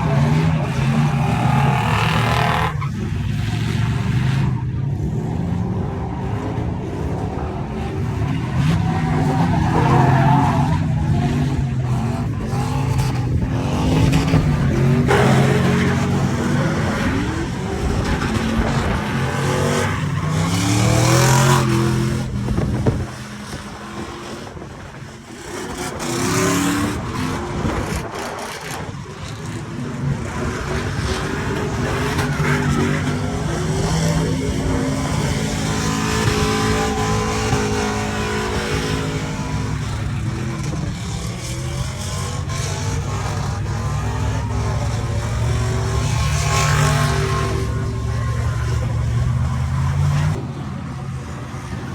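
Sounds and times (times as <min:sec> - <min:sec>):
truck engines revving: 0:00.0 - 0:51.9.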